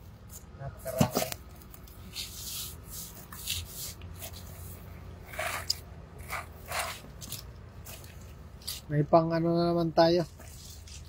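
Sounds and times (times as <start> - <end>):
fishing net rustling and scraping: 0.2 - 9.0, 10.2 - 11.0.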